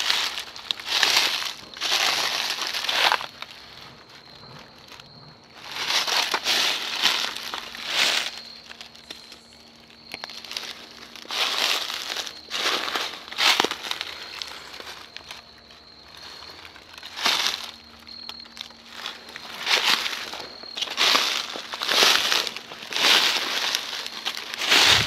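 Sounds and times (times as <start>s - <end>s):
footsteps crunching through dry leaves: 0.0s - 25.0s.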